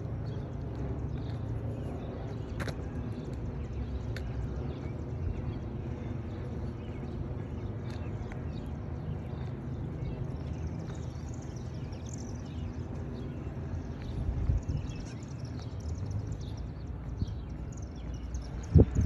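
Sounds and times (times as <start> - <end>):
birds chirping: 0.0 - 19.0
low outdoor rumble: 0.0 - 19.0.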